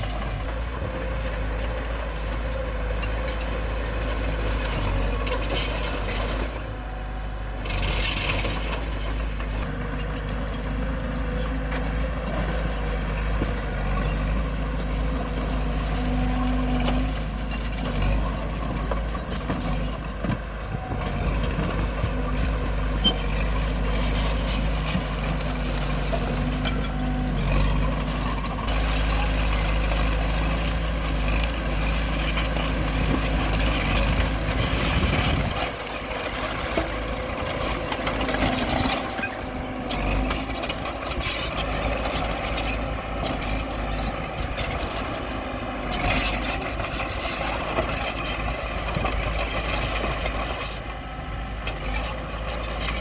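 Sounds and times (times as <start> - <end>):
steel clanks and squeaks: 0.0 - 51.0, 51.6 - 53.0
bulldozer diesel engine: 0.0 - 53.0.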